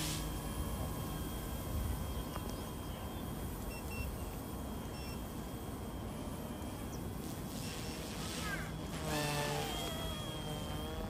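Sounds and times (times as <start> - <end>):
toy helicopter whine: 0.0 - 11.0.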